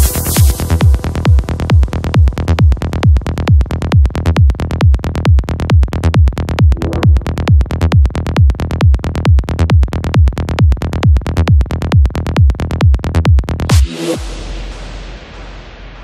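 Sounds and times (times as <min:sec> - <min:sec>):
psychedelic trance music: 0:00.0 - 0:16.0.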